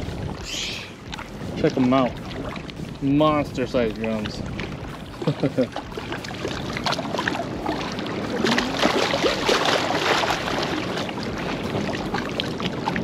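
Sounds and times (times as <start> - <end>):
waves lapping against rocks: 0.0 - 13.0.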